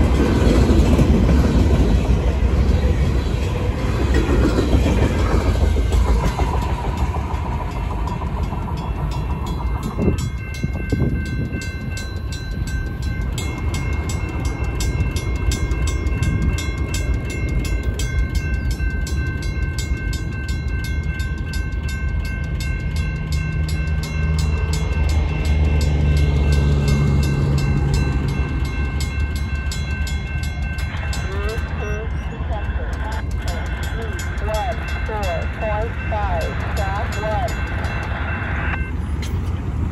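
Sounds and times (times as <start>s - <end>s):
freight train rumble: 0.0s - 39.9s
mechanical crossing bell: 5.9s - 39.6s
electronic crossing bell: 6.4s - 39.4s.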